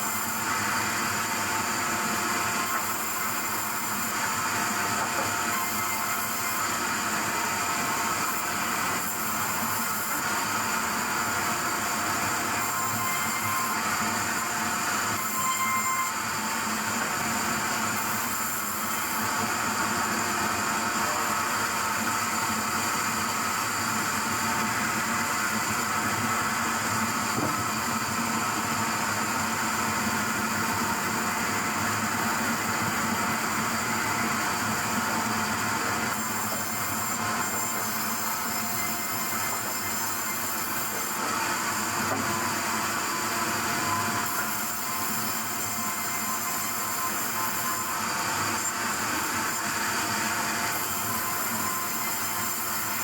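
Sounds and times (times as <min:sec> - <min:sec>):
hiss of saw cutting log: 0:00.0 - 0:53.0
sawmill saw whine: 0:00.0 - 0:53.0.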